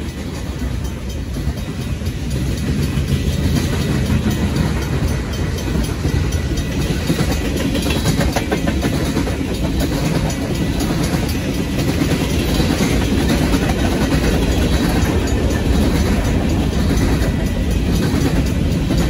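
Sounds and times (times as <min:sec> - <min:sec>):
train wheels rumbling on rails: 0:00.0 - 0:19.0
wheels clicking over rail joints: 0:00.0 - 0:19.0.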